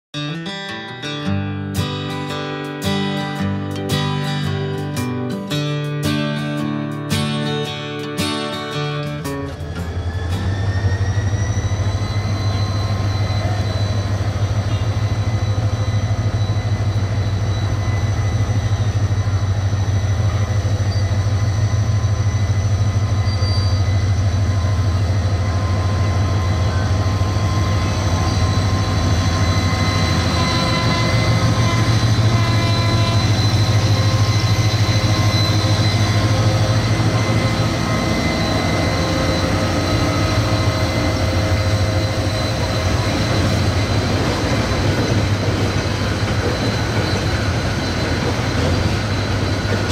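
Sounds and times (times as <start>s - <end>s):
locomotive engine drone: 1.0s - 49.9s
high-pitched whine: 1.8s - 49.9s.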